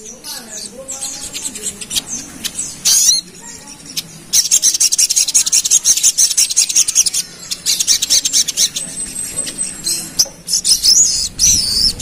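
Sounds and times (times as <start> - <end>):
bird singing a chattering trill: 0.0 - 12.0.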